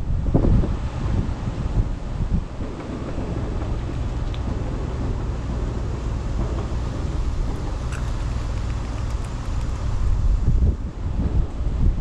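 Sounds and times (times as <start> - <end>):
wind buffeting microphone: 0.0 - 12.0
low motor hum: 1.8 - 12.0.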